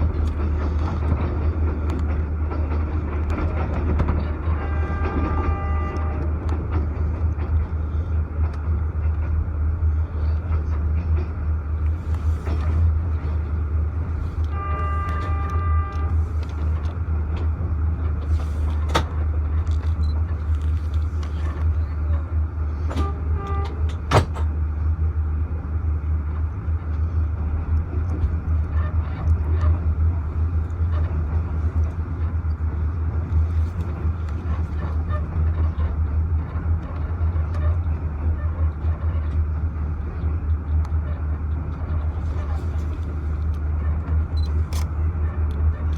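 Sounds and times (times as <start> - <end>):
train rumbling: 0.0 - 45.9.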